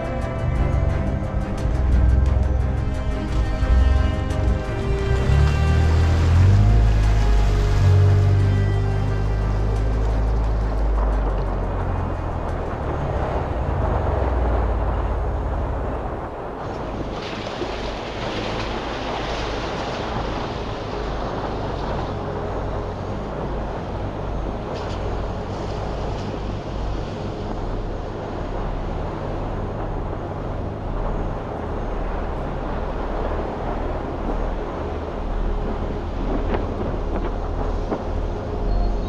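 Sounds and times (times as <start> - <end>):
vehicle engine and tyre rumble: 0.0 - 39.0
wind noise on microphone: 0.0 - 39.0.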